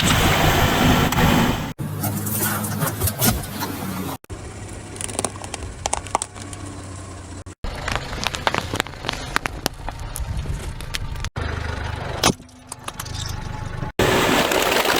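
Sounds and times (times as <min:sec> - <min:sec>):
car engine running low: 0:00.0 - 0:14.9.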